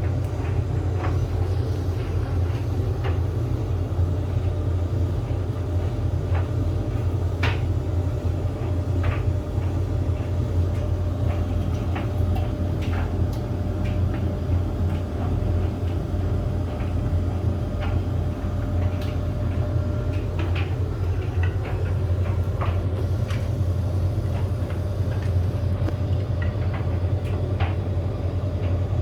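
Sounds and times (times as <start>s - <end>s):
tumble dryer motor hum: 0.0s - 29.0s.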